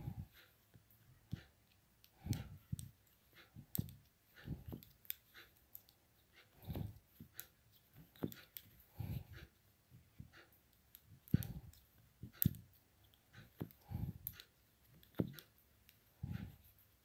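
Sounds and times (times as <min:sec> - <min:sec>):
yarn rustling and soft thumps: 0:00.0 - 0:05.7, 0:06.3 - 0:17.0
metal knitting needles clicking: 0:01.2 - 0:09.6, 0:10.4 - 0:17.0.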